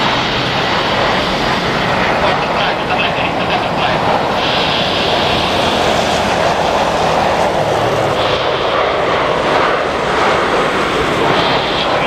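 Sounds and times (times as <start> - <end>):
jet engines running with high whine: 0.0 - 12.0.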